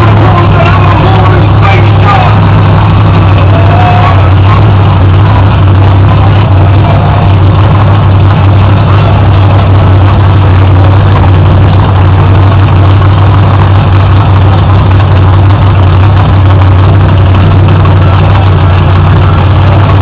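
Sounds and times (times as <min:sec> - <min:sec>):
loud truck engine at low revs: 0:00.0 - 0:20.0.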